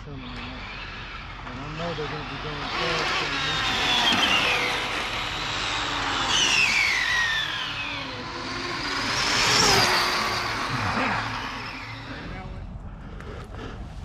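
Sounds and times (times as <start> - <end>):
rc car motor whine: 0.0 - 13.0
tyre and road rush: 0.0 - 14.0.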